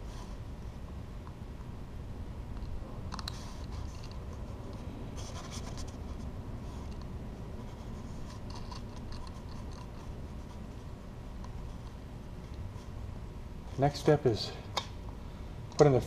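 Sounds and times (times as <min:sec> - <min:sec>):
steady low hum: 0:00.0 - 0:16.0
hands scraping and rustling wires: 0:02.6 - 0:16.0.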